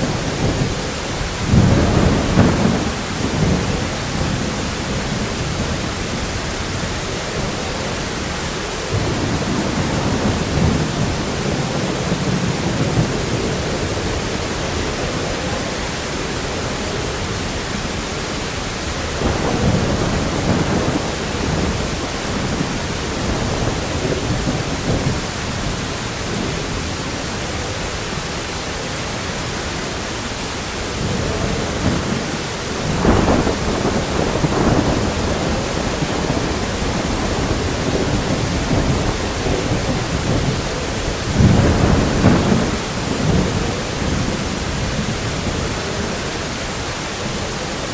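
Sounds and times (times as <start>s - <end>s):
thunder rolling: 0.0s - 27.4s, 30.2s - 47.9s
heavy rain hiss: 0.0s - 47.9s.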